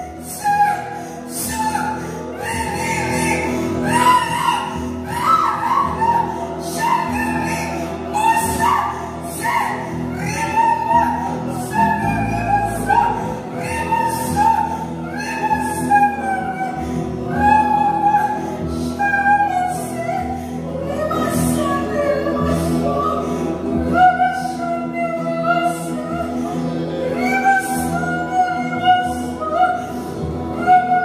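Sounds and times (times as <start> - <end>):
acoustic guitar: 0.0 - 31.0
woman singing: 0.0 - 31.0.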